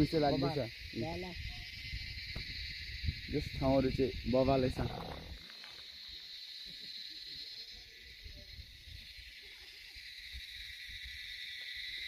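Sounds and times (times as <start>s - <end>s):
insects droning chorus: 0.0s - 12.0s.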